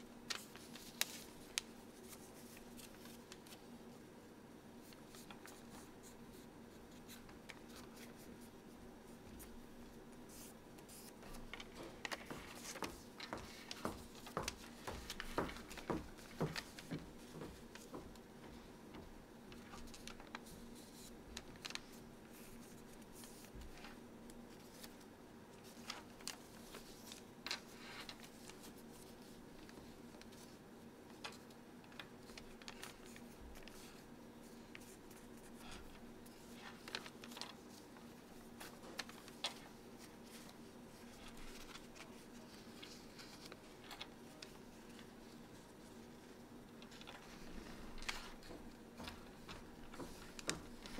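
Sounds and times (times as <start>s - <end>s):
paper being folded and creased: 0.3s - 3.7s, 10.3s - 18.2s, 19.5s - 50.9s.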